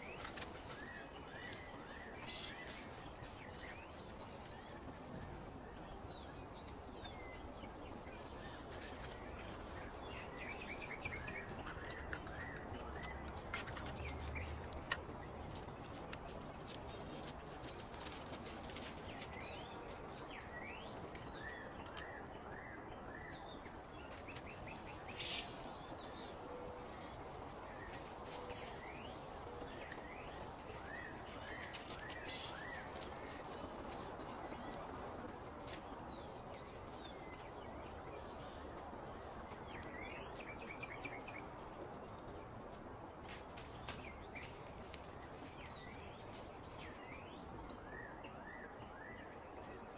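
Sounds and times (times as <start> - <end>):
bird chirping: 0.0 - 42.7, 43.8 - 49.9.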